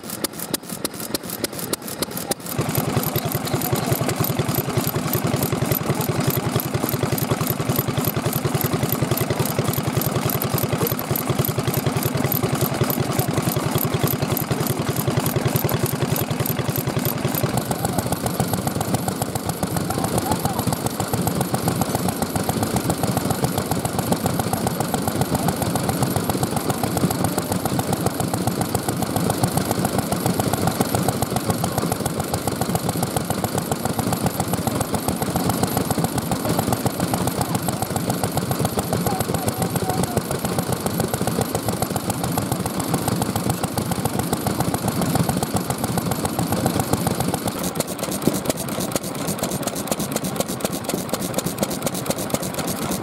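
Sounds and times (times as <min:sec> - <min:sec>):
stationary oil engines running: 0:00.0 - 0:53.0.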